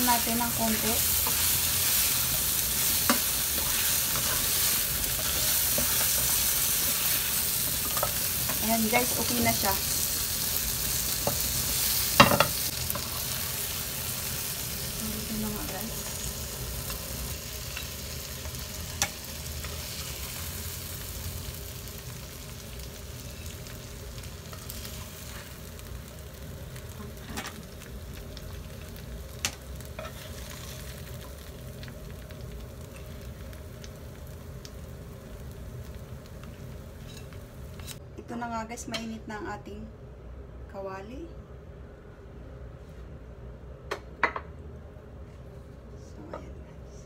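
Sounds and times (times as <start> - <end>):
shrimp sizzling in oil: 0.0 - 38.0.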